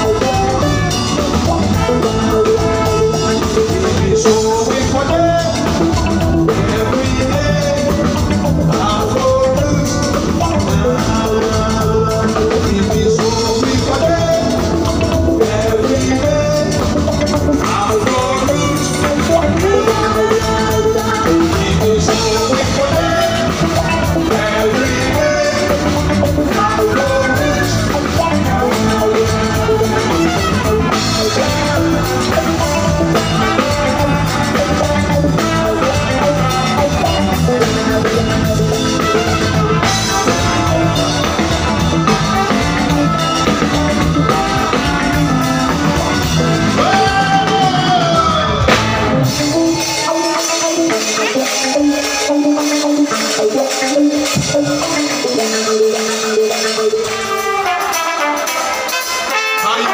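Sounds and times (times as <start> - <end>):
person singing: 0.0 - 59.9
reggae band playing: 0.0 - 59.9.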